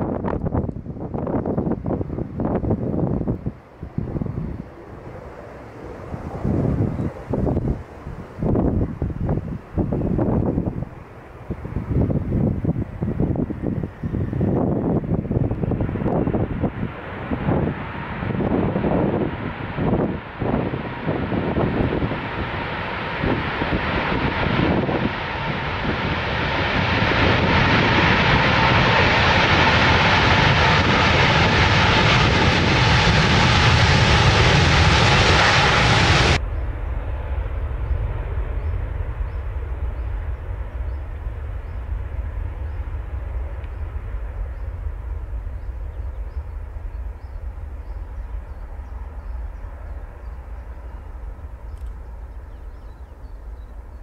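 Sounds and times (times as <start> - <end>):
deep rumble of jet takeoff: 0.0 - 54.0
jet engines roaring: 0.0 - 54.0.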